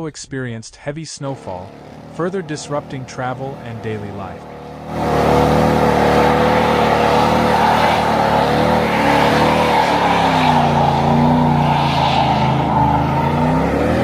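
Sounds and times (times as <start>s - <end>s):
car engine running under load: 1.3s - 14.0s.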